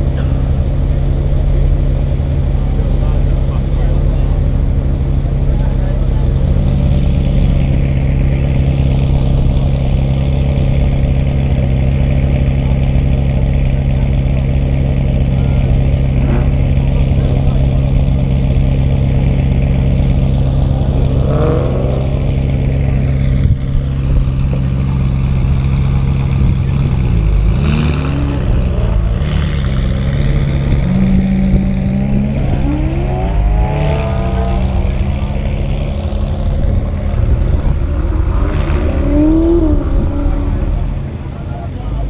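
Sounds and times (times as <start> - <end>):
car engines idling: 0.0 - 42.0.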